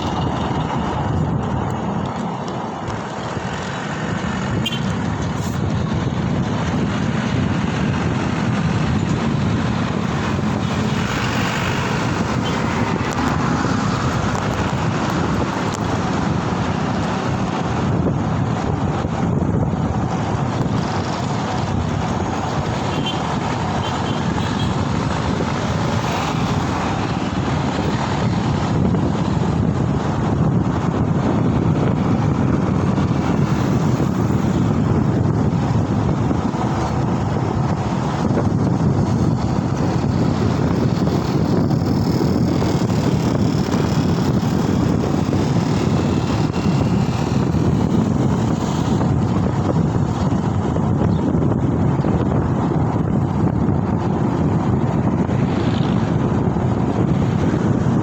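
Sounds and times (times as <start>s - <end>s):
road traffic noise: 0.0s - 58.0s
wind rushing over microphone: 0.0s - 58.0s.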